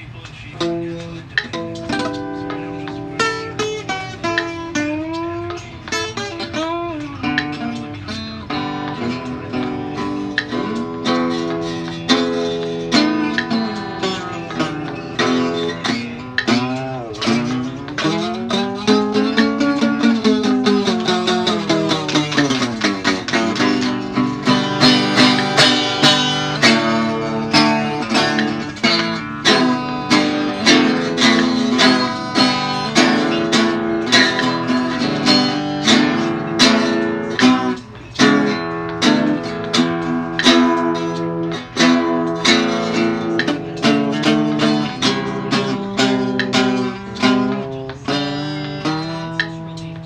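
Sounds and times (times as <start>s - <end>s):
flamenco-like acoustic guitar: 0.0s - 50.0s.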